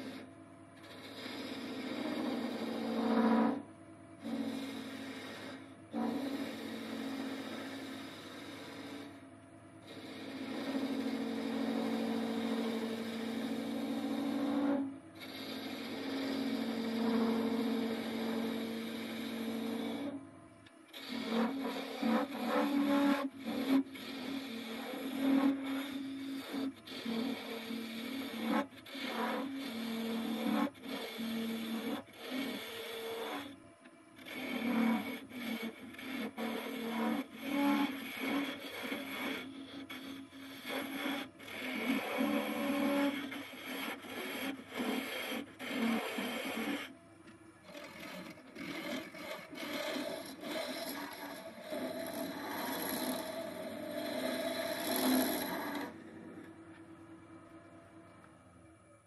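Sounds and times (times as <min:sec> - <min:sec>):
lathe tool scraping wood: 0:00.0 - 0:03.6, 0:04.2 - 0:09.2, 0:09.8 - 0:20.2, 0:20.9 - 0:33.6, 0:34.2 - 0:47.0, 0:47.6 - 0:57.1
low lathe hum: 0:00.0 - 0:59.0.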